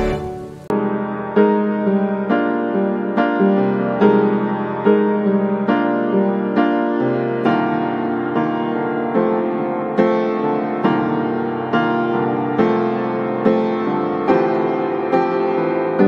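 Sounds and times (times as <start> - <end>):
relaxing piano chords: 0.0 - 16.0.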